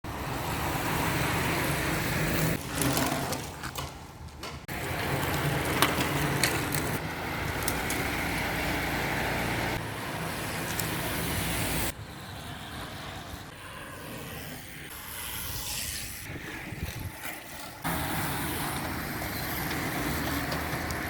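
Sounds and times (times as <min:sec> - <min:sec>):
bicycle road and wind rumble: 0:00.0 - 0:21.0.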